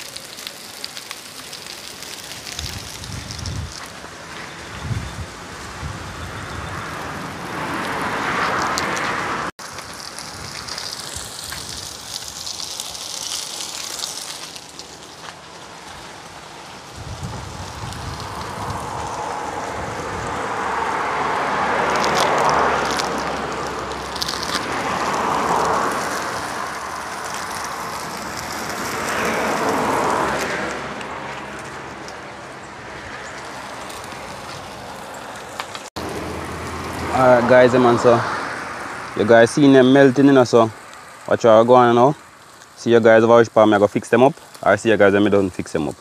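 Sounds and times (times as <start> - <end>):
rushing noise: 0.0 - 42.4
burger patties sizzling: 0.0 - 46.0
fire crackling: 0.0 - 46.0.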